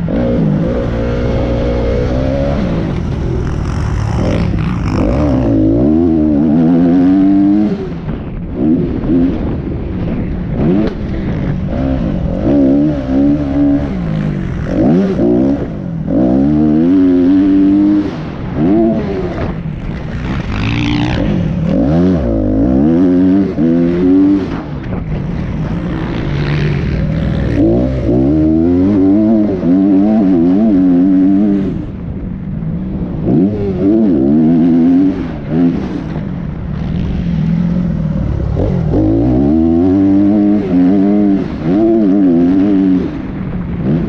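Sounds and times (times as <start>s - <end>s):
dirt bike engine revving: 0.0s - 9.6s, 10.5s - 32.0s, 33.1s - 44.0s.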